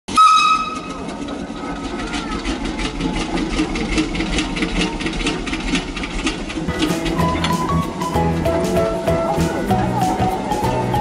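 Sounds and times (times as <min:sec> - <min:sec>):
rhythmic mechanical clatter: 0:00.1 - 0:11.0.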